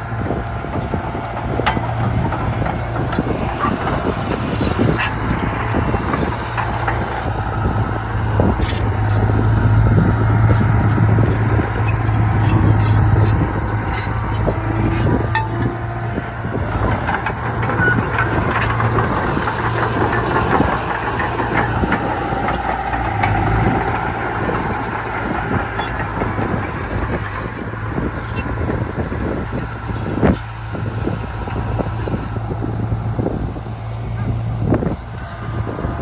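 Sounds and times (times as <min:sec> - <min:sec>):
bulldozer diesel engine running: 0:00.0 - 0:36.0
metal clanks and rattles: 0:00.2 - 0:32.2.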